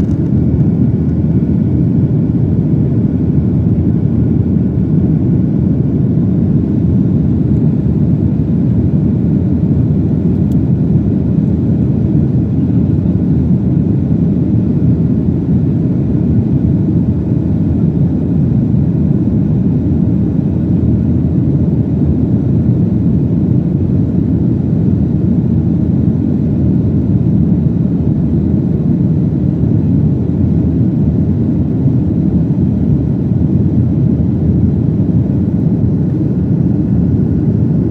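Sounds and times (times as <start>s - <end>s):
airplane cabin engine roar: 0.0s - 37.9s.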